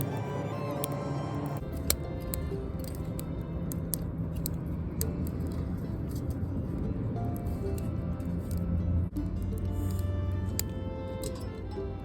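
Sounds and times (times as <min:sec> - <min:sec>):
background music: 0:00.0 - 0:12.0
low steady rumble: 0:00.0 - 0:12.0
wood fire crackling: 0:00.0 - 0:12.0.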